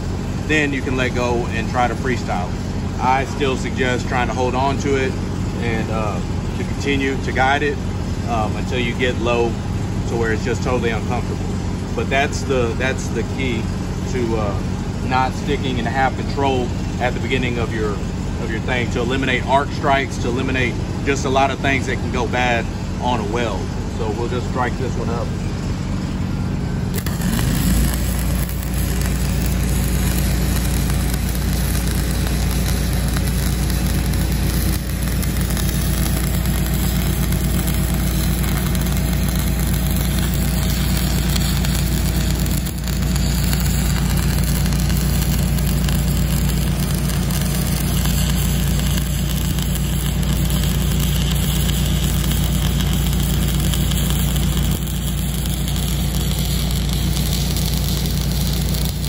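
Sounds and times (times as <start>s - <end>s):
welding arc burning: 0.0s - 21.9s, 26.8s - 59.0s
low machine hum: 0.0s - 59.0s.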